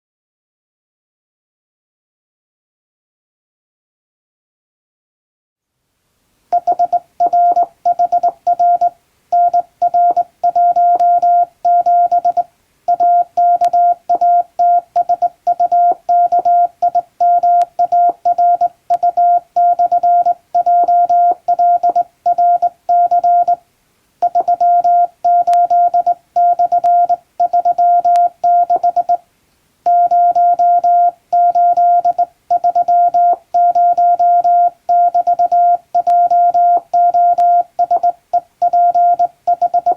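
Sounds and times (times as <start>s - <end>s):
morse code beeps: 6.6s - 23.6s, 24.2s - 29.2s, 29.9s - 39.9s.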